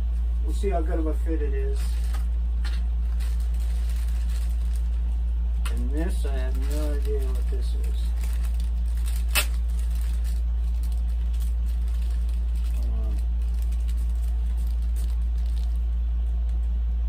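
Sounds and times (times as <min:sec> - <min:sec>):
steady low hum: 0:00.0 - 0:17.0
plastic bag rustling: 0:01.6 - 0:05.2, 0:05.8 - 0:16.5.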